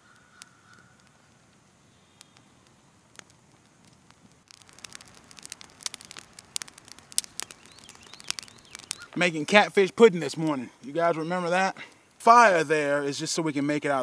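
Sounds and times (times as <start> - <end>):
small fire crackling and popping: 0.0 - 14.0.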